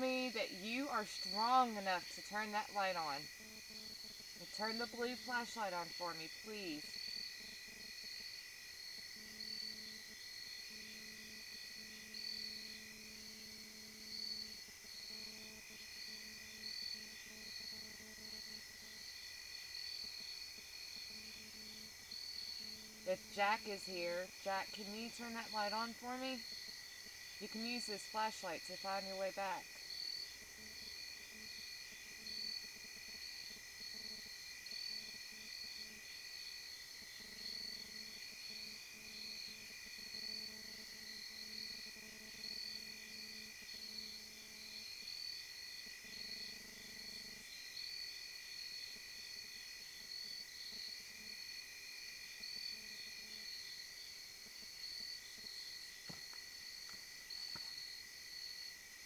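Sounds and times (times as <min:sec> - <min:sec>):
crickets and insects trilling: 0:00.0 - 0:59.0.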